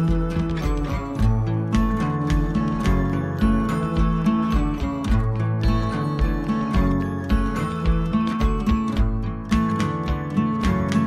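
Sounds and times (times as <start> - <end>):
acoustic guitar over a beat: 0.0 - 11.0.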